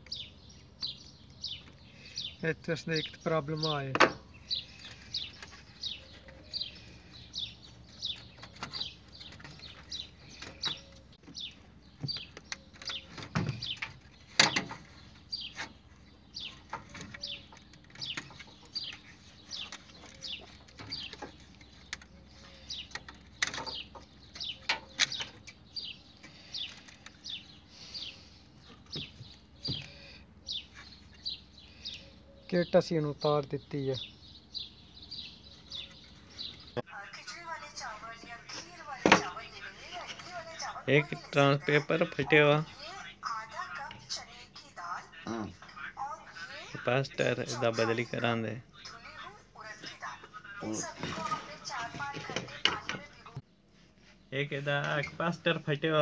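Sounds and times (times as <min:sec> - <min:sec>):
small bird chirping: 0:00.0 - 0:56.0.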